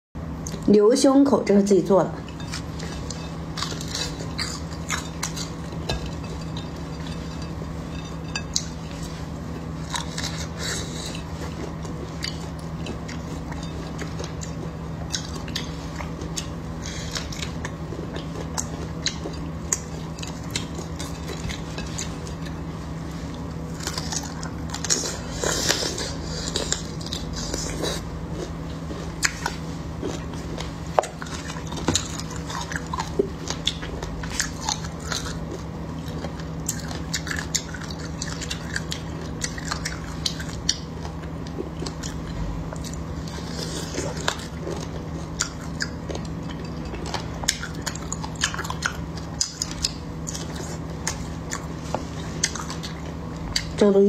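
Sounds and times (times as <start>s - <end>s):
biting and chewing: 2.2s - 53.8s.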